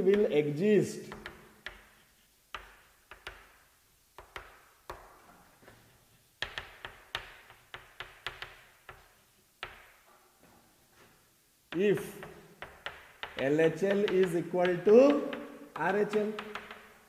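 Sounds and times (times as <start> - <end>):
chalk tapping on blackboard: 0.0 - 10.0, 11.7 - 17.0.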